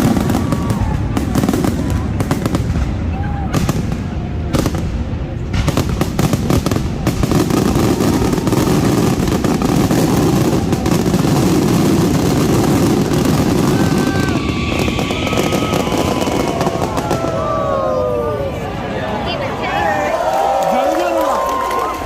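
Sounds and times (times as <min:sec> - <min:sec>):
firework bangs and crackles: 0:00.0 - 0:22.0.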